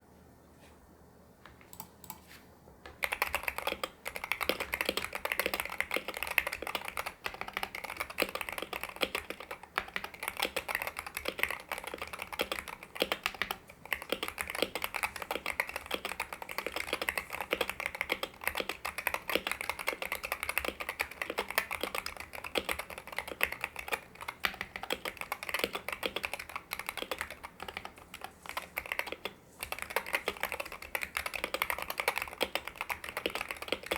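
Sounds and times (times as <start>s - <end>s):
fast keyboard typing: 2.9s - 33.9s.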